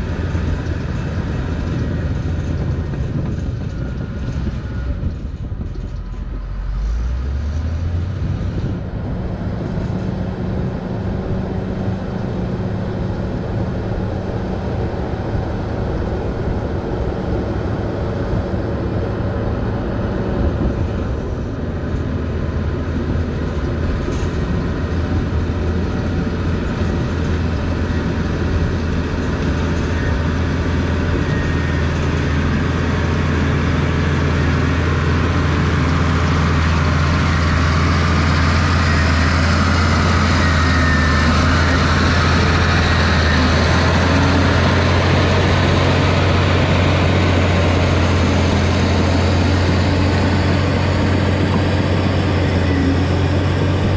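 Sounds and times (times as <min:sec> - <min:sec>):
bulldozer diesel engine revving: 0:00.0 - 0:53.9.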